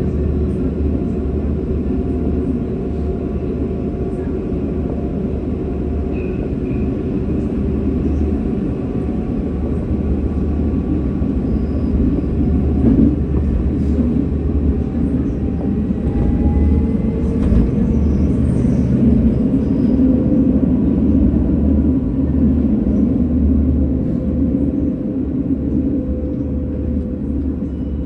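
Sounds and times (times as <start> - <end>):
tram wheels rumbling: 0.0 - 28.0.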